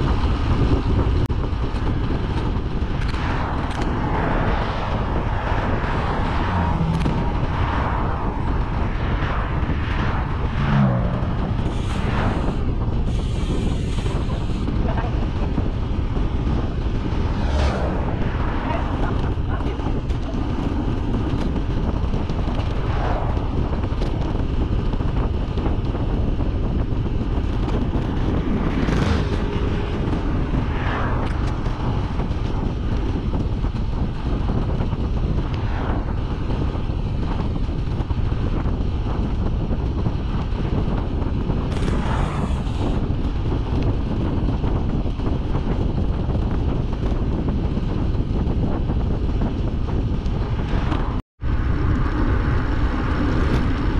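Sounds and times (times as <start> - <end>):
vehicles passing: 0.0 - 45.8, 49.2 - 53.9
wind rushing over microphone: 0.0 - 53.9.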